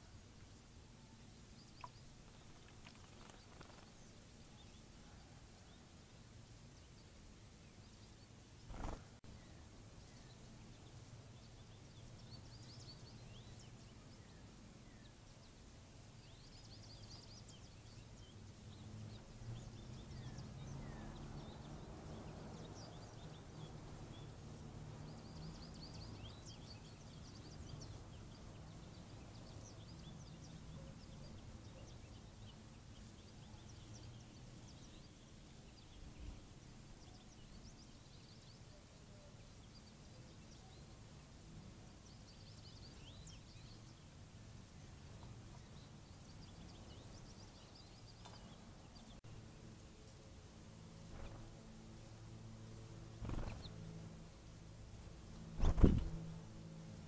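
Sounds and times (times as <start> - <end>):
small birds chirping: 0.0 - 5.8, 6.7 - 50.3, 52.9 - 54.2, 55.3 - 56.6.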